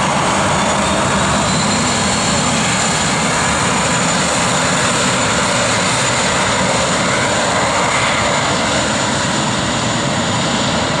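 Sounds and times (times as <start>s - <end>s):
high engine whine: 0.0s - 11.0s
jet engine roar: 0.0s - 11.0s.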